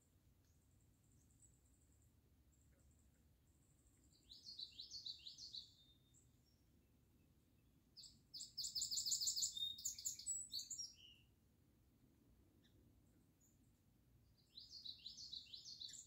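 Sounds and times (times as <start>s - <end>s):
songbird singing: 0.0s - 11.4s, 12.2s - 16.0s
faint low background noise: 0.0s - 16.0s.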